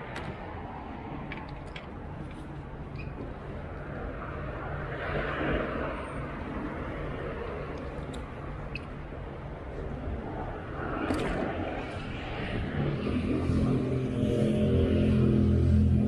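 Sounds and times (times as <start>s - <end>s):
passing traffic engine rumble: 0.0s - 16.0s.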